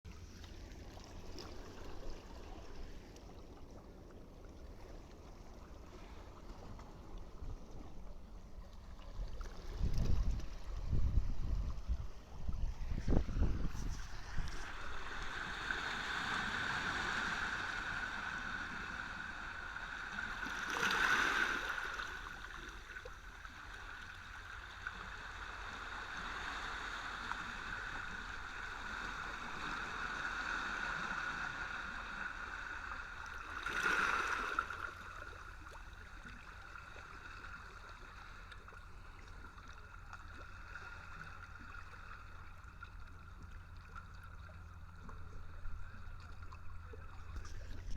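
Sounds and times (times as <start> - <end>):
small waves lapping: 0.1 - 47.9.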